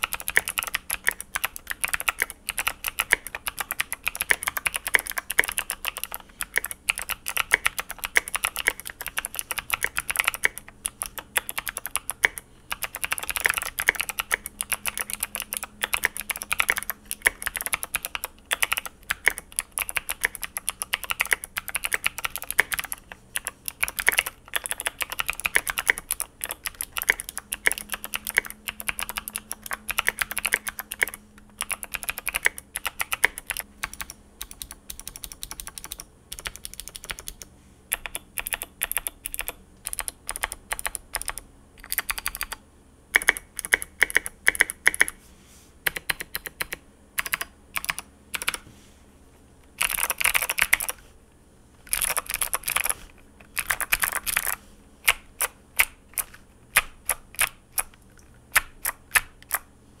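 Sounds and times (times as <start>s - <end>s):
mechanical keyboard typing: 0.0s - 45.2s, 45.8s - 48.6s, 49.8s - 51.0s, 51.8s - 59.7s.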